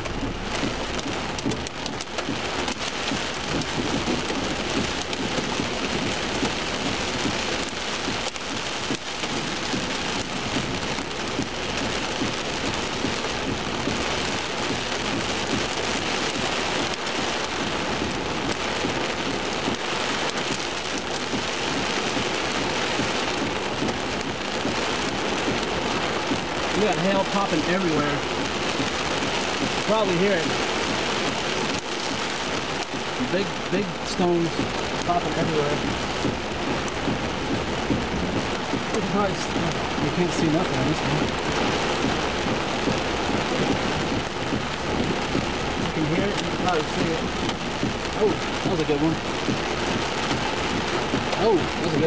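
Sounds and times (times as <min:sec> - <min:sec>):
hailstones striking: 0:00.0 - 0:52.0
heavy rain downpour: 0:00.0 - 0:52.0.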